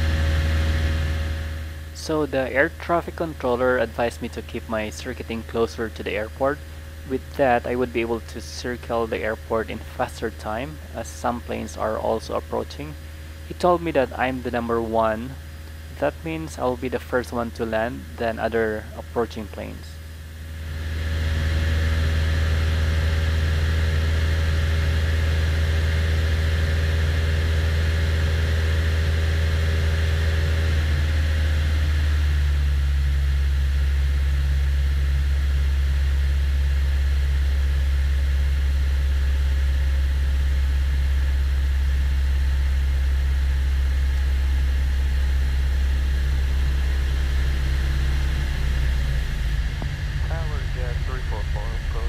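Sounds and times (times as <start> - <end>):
airplane engine droning in cockpit: 0.0 - 52.0.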